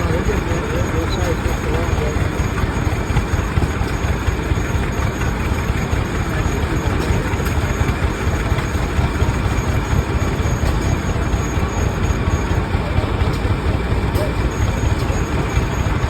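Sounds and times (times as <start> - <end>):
tractor engines running: 0.0 - 16.0.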